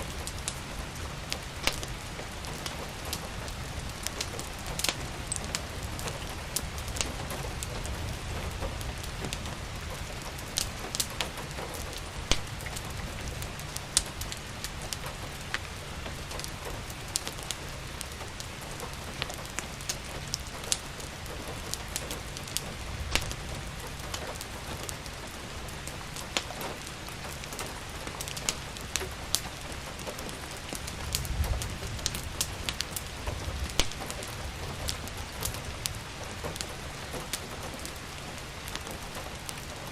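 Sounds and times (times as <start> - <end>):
rain hissing: 0.0 - 39.9
wood fire crackling: 0.0 - 39.9.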